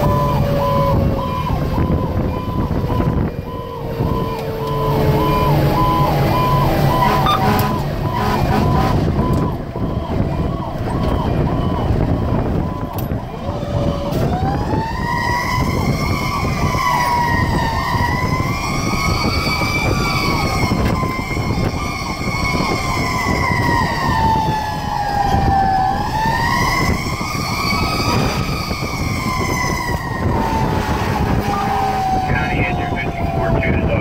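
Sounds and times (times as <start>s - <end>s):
fire engine siren wailing: 0.0s - 34.0s
road noise: 0.0s - 34.0s
truck engine rumble: 0.0s - 34.0s.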